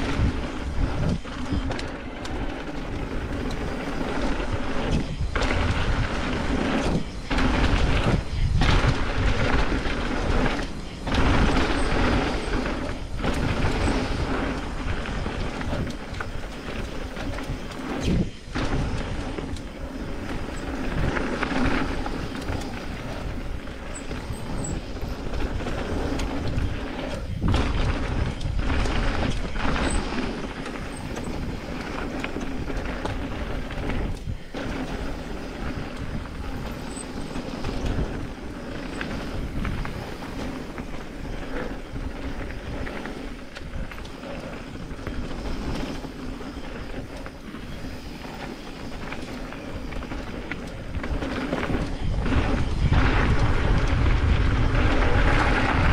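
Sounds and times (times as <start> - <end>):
bike knocking and rattling: 0.0 - 55.9
tyres rumbling on dirt: 0.0 - 55.9
wind: 0.0 - 55.9.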